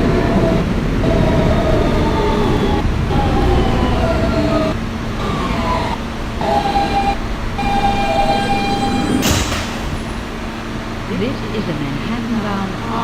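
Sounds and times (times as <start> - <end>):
subway motor whining: 0.0 - 13.0
train car rumble: 0.0 - 13.0.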